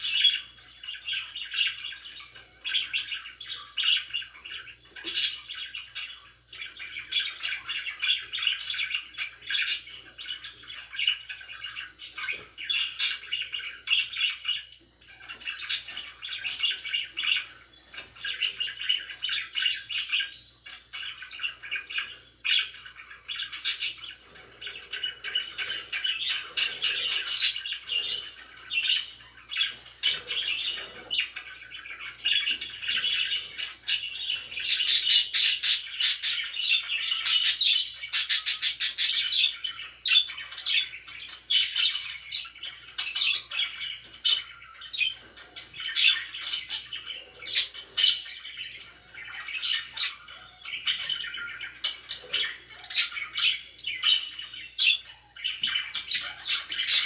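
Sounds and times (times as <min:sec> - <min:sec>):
budgerigars chirping and chattering: 0:00.0 - 0:57.0.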